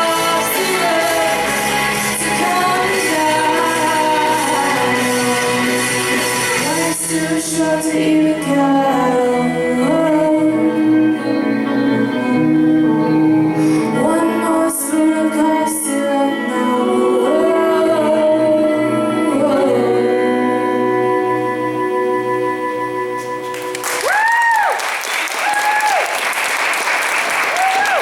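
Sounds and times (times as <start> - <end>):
woman singing: 0.0 - 22.4
instrumental accompaniment: 0.0 - 24.0.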